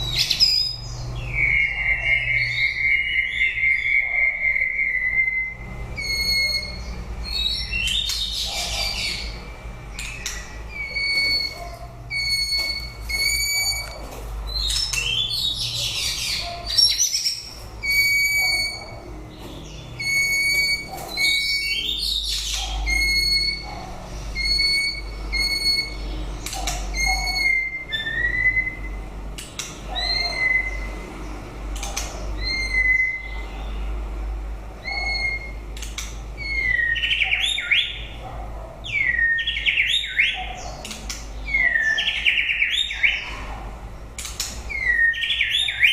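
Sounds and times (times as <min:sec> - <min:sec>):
bird singing whistled notes: 0:00.0 - 0:09.4, 0:10.0 - 0:19.0, 0:19.6 - 0:23.7, 0:24.4 - 0:29.0, 0:30.0 - 0:31.0, 0:31.9 - 0:33.4, 0:34.8 - 0:38.2, 0:38.9 - 0:40.5, 0:41.4 - 0:43.2, 0:44.7 - 0:45.9.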